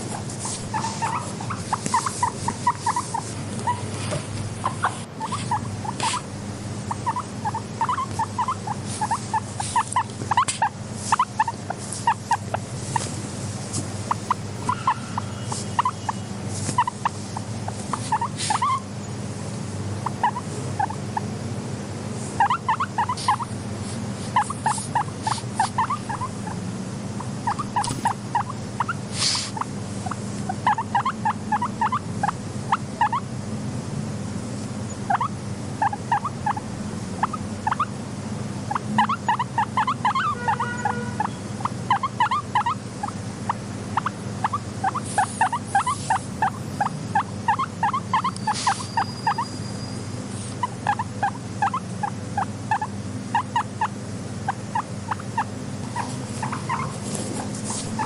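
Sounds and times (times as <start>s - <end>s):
guinea pig squeaking: 0.0s - 18.9s, 20.0s - 21.3s, 22.3s - 33.3s, 34.9s - 38.0s, 38.6s - 58.0s.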